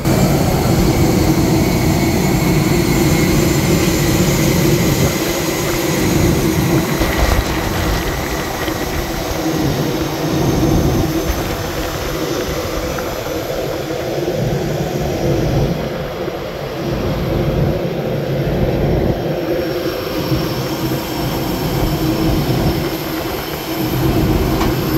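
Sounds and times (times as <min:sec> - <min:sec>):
constant hum: 0:00.0 - 0:24.9
jet engine whine and rumble: 0:00.0 - 0:24.9.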